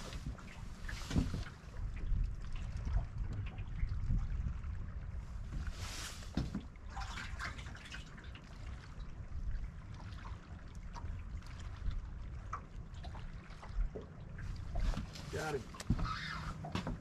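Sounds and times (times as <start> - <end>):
waves lapping against boat hull: 0.0 - 17.0
wind rumble on microphone: 0.0 - 17.0.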